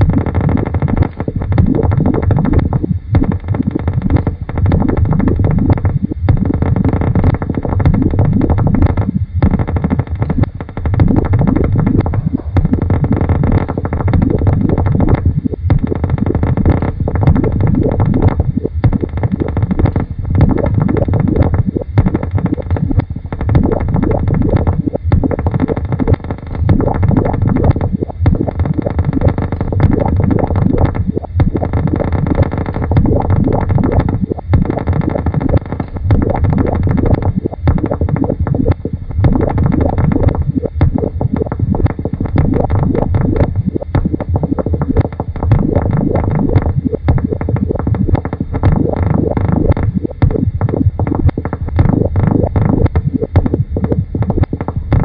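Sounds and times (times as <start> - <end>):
electronic noise music: 0.0 - 55.0.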